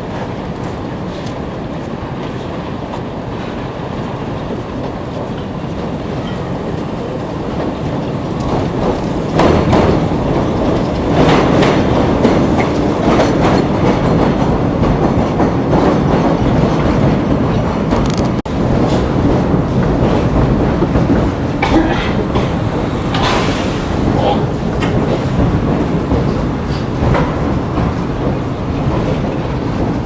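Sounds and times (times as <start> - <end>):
elevated train on steel rails: 0.0 - 30.0
wheels clicking over rail joints: 0.0 - 30.0.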